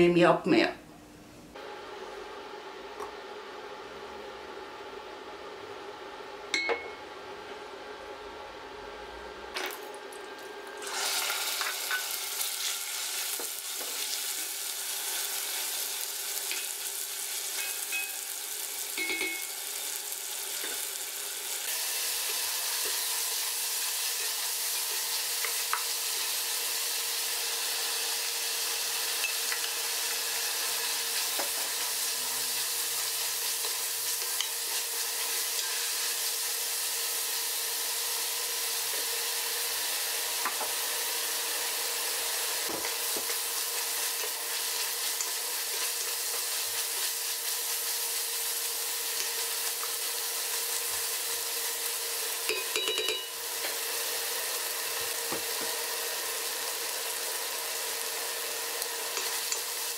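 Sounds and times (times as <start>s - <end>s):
chicken sizzling in butter: 9.6s - 59.9s.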